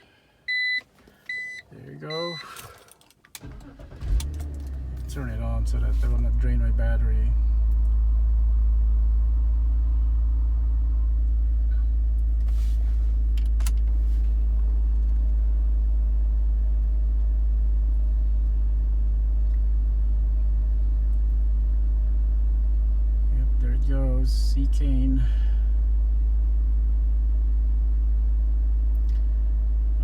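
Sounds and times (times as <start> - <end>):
car engine idling: 3.3 - 30.0.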